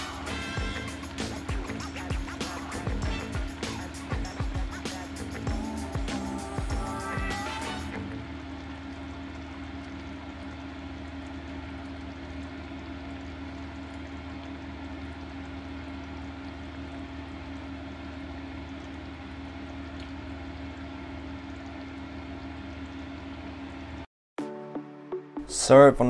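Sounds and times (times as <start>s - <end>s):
food simmering in a frying pan: 0.0s - 24.1s
low hum: 0.0s - 25.5s.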